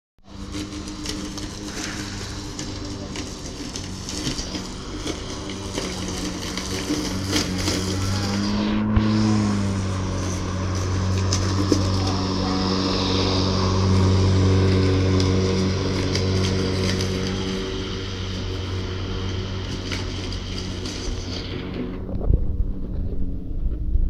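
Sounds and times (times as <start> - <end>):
electric lawn mower humming: 0.2 - 24.0.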